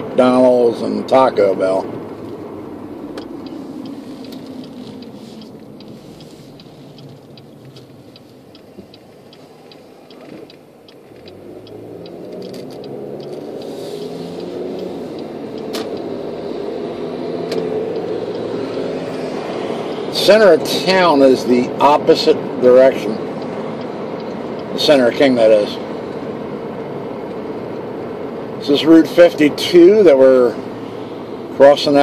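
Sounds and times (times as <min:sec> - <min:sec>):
car engine and road noise: 0:00.0 - 0:32.0
turn signal ticking: 0:00.0 - 0:32.0.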